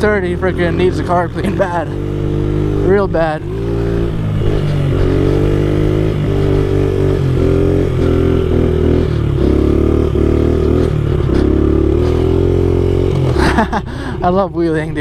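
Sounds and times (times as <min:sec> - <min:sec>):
small motorbike engine revving: 0:00.0 - 0:13.9.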